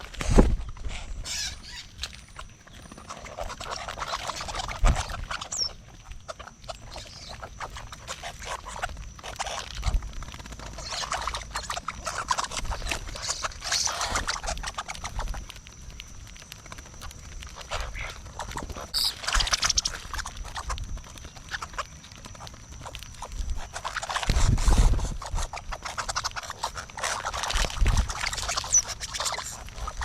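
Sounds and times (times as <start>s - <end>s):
animals clicking and scuffling at feeder: 1.0s - 30.0s.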